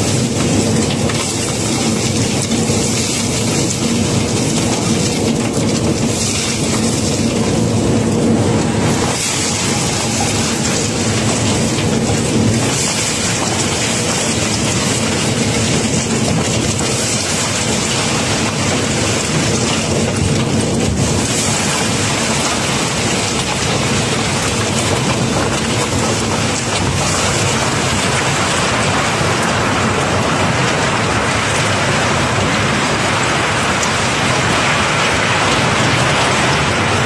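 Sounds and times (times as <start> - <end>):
cobblestones pouring out: 0.0 - 37.0
machine hum: 3.6 - 37.0.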